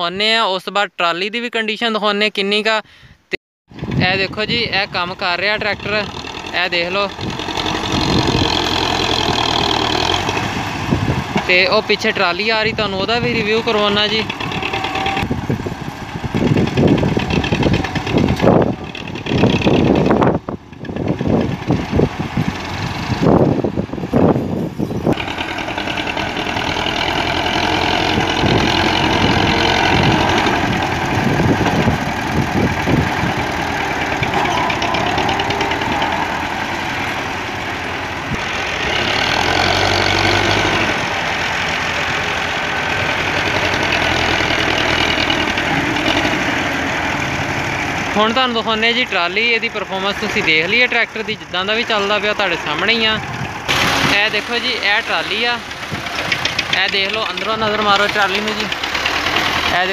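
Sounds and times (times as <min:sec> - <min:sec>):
tractor diesel engine running: 0:03.7 - 0:59.9.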